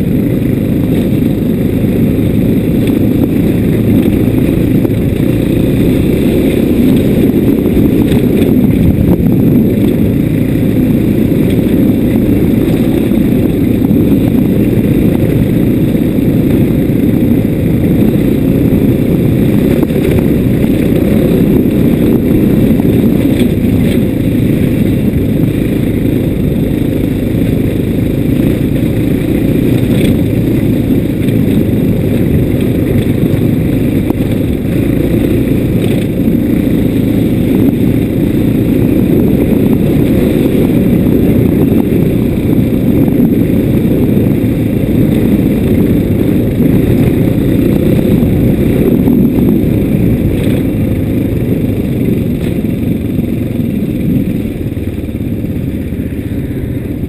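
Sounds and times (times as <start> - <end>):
vehicle rumble on dirt track: 0.0 - 57.0.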